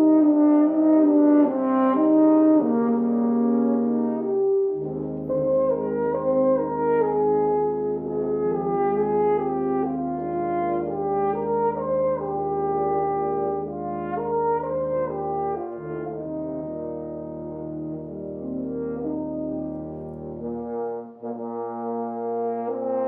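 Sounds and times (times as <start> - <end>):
slow instrumental ensemble music: 0.0 - 23.0.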